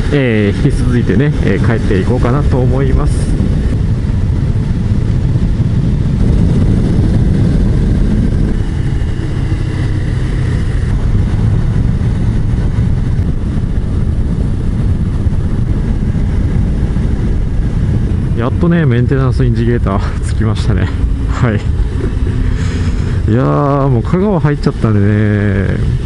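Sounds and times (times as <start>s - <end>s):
motorcycle engine rumble: 0.0s - 26.0s
wind: 0.0s - 26.0s.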